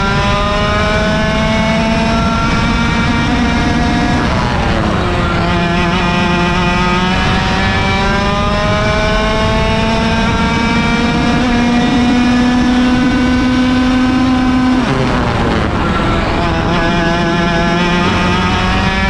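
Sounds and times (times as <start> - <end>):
kart engine at full throttle: 0.0 - 19.0.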